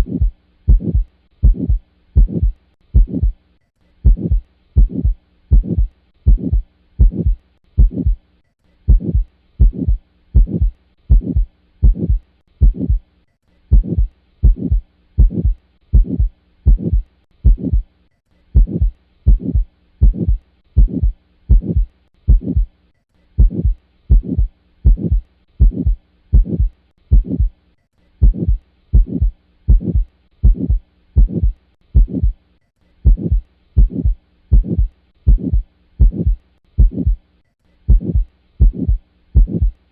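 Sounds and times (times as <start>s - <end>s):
heartbeat with murmur: 0.0s - 3.4s, 4.0s - 8.2s, 8.9s - 13.1s, 13.7s - 17.9s, 18.5s - 22.7s, 23.4s - 27.6s, 28.2s - 32.4s, 33.0s - 37.2s, 37.9s - 39.8s.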